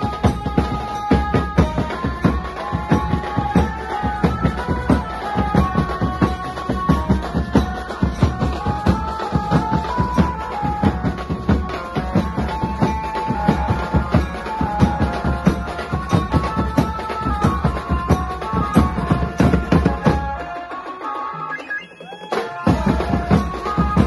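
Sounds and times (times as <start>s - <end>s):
band melody line: 0.0s - 24.0s.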